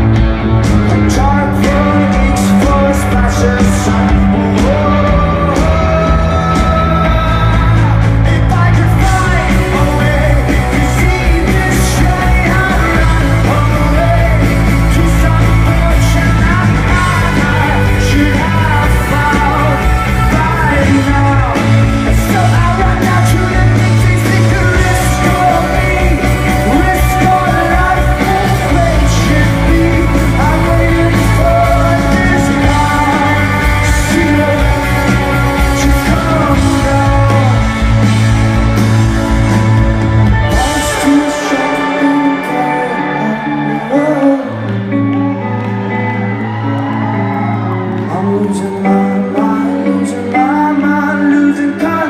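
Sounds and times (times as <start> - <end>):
man singing: 0.0 - 46.4, 47.5 - 52.0
live rock band playing: 0.0 - 52.0.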